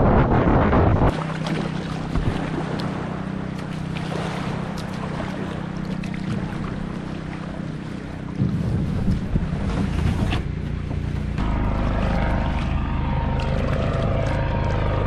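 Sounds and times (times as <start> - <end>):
wind buffeting microphone: 0.0 - 3.6, 4.2 - 15.0
steady low hum: 0.0 - 15.0
water splashing and lapping: 0.0 - 15.0.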